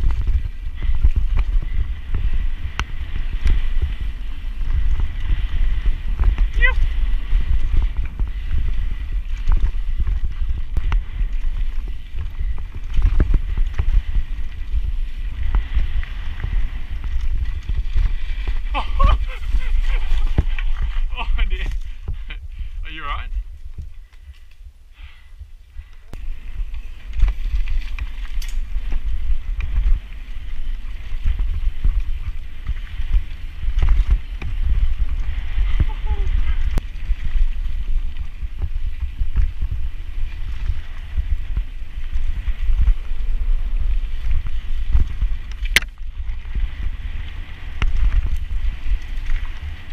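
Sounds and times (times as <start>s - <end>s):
bike rattling over rough ground: 0.0s - 49.9s
wind buffeting microphone: 0.0s - 49.9s.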